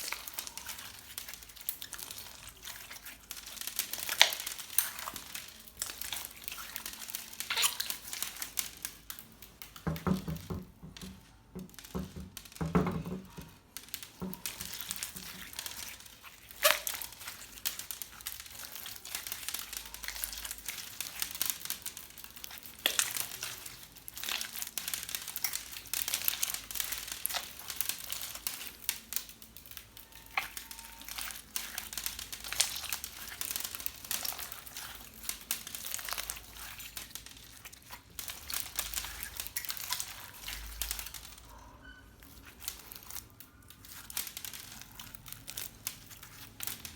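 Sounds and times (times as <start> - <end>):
slime crackling and clicking: 0.0 - 46.9.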